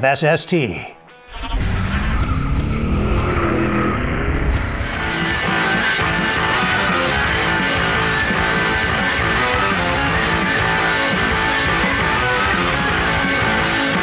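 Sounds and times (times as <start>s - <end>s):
rock music with electric guitar: 1.0s - 14.0s.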